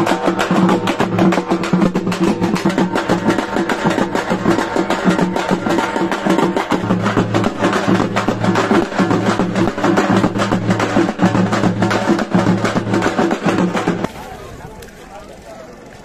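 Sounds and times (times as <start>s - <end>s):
music with fast dense drumming: 0.0s - 14.2s.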